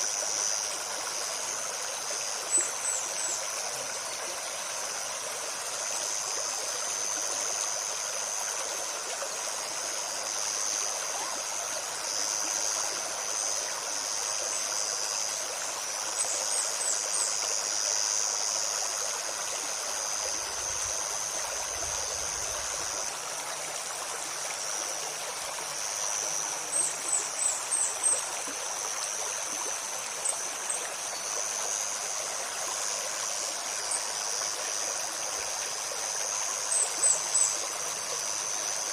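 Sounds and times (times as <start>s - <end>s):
high-pitched insect drone: 0.0s - 38.9s
stream running over stones: 0.0s - 38.9s.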